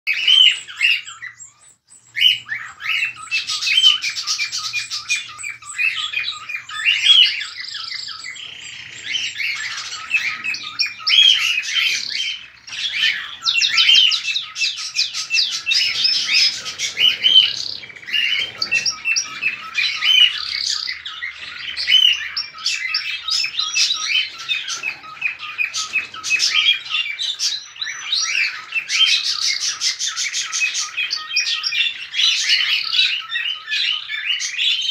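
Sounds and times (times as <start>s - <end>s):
cockatiels chattering: 0.1s - 34.9s.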